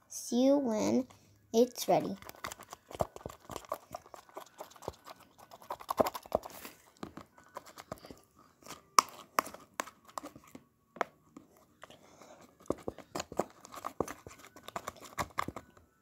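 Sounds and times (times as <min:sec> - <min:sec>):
sticky slime squelching: 0:01.8 - 0:10.6, 0:11.4 - 0:15.7.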